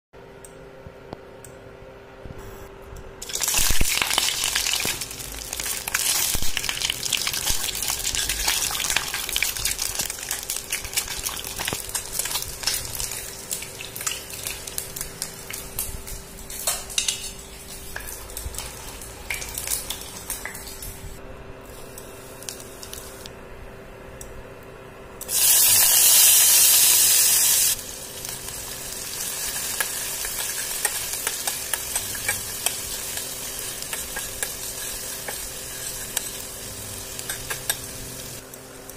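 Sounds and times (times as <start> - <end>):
eggs crackling in hot oil: 3.2 - 23.3, 25.2 - 38.9
onions sizzling in pan: 3.2 - 23.3, 25.2 - 38.9.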